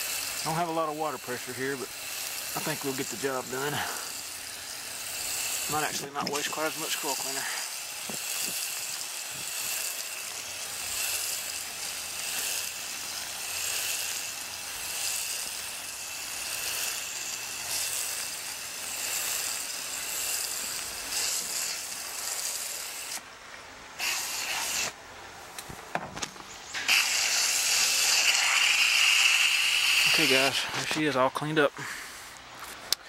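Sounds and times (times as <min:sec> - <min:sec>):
spray gun hissing: 0:00.0 - 0:23.2, 0:24.0 - 0:25.0, 0:26.7 - 0:30.8.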